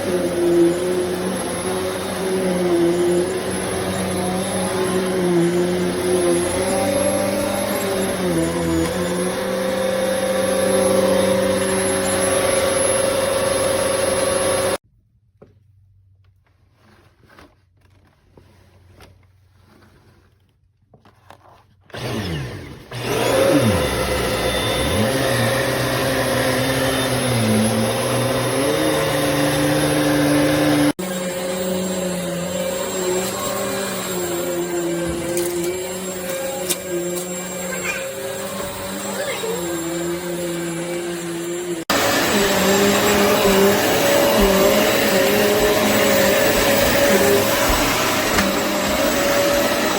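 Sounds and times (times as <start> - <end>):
vacuum cleaner motor whining: 0.0 - 14.8, 21.9 - 49.9.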